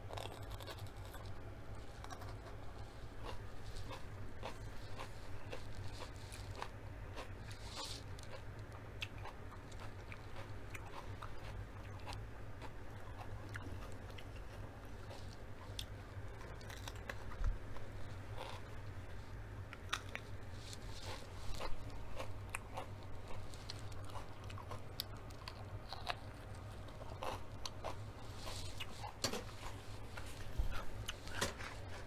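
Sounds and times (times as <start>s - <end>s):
crunchy chewing: 0.0s - 32.0s
steady low hum: 0.0s - 32.0s.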